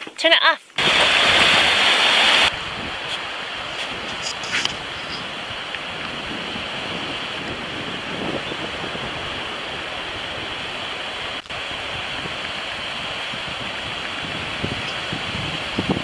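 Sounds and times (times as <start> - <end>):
wind: 0.0 - 16.0
small waves breaking on shore: 0.8 - 16.0.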